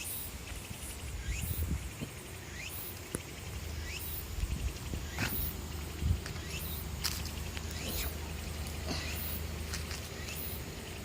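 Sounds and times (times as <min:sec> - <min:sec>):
high rising insect chirps: 0:00.0 - 0:11.0.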